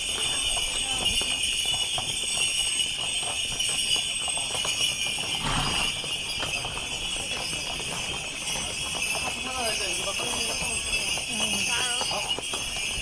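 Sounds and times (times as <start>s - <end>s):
harness bells jingling: 0.0s - 13.0s
hooves clopping on asphalt: 0.0s - 13.0s.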